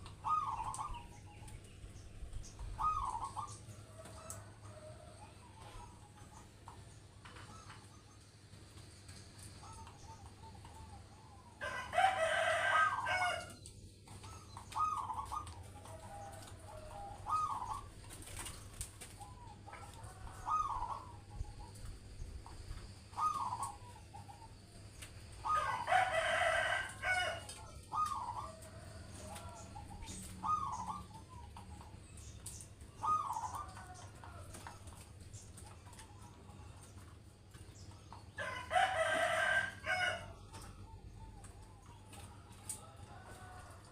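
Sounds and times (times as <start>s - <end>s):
dove cooing: 0.0s - 8.4s, 9.4s - 37.1s, 37.9s - 43.9s.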